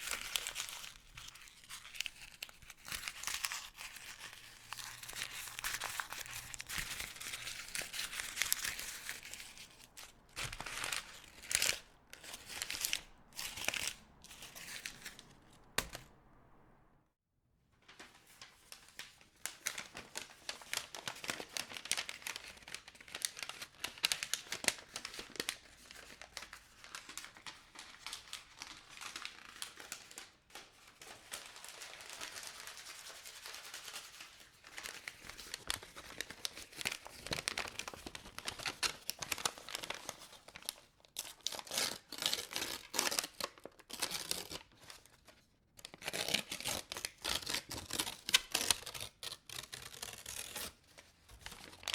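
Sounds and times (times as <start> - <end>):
crumpling and crinkling by hand: 0.0 - 16.3, 17.8 - 51.9.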